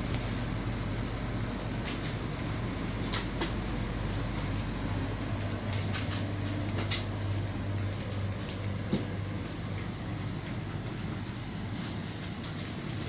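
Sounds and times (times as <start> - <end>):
shop background hum: 0.0 - 13.0.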